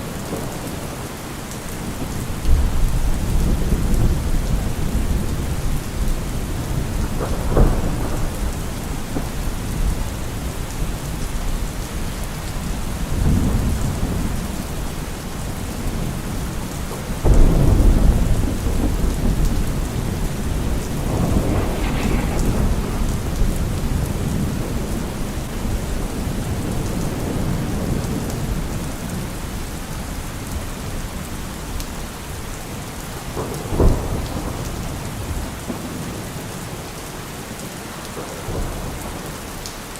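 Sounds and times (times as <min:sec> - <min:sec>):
heavy rain drumming on car roof: 0:00.0 - 0:39.9
thunder cracks and rumbles: 0:01.8 - 0:31.8, 0:32.4 - 0:36.7.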